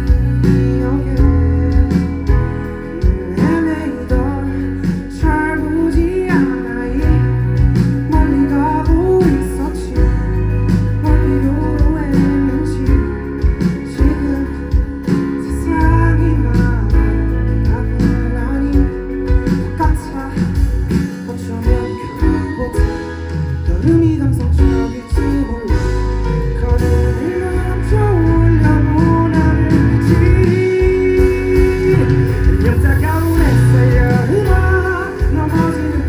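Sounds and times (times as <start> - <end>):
live band music: 0.0 - 36.0.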